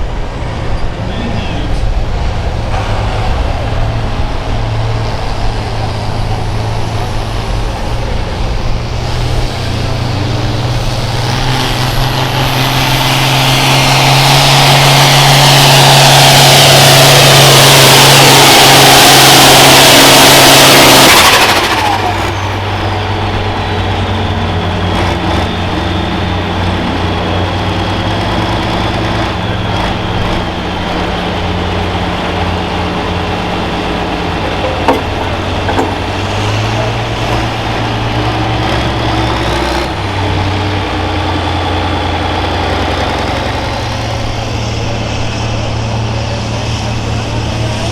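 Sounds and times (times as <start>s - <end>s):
tractor diesel engine at full throttle: 0.0s - 47.9s.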